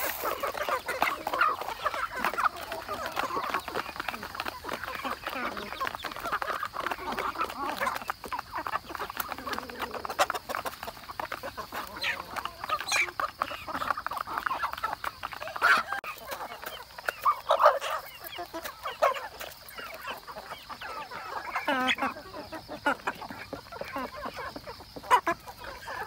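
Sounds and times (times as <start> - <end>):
beaks pecking on plastic plates: 0.0 - 26.0
chickens clucking and calling: 0.0 - 26.0.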